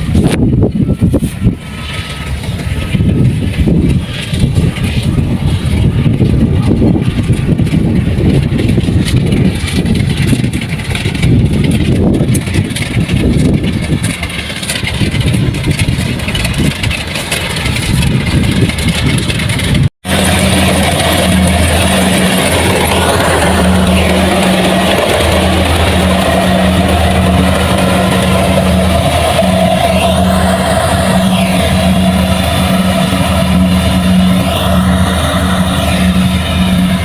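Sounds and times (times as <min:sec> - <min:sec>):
heavy farm machinery engine: 0:00.0 - 0:37.0.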